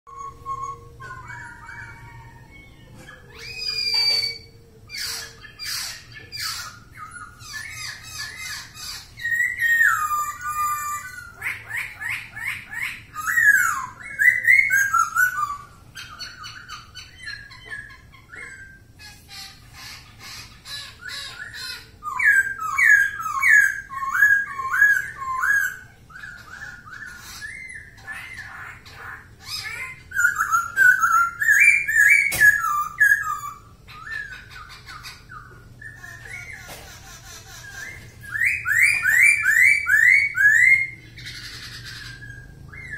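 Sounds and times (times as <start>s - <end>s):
bird singing whistled phrases: 0.1s - 18.9s, 21.0s - 36.6s, 37.6s - 42.9s
bird chattering: 0.1s - 42.9s.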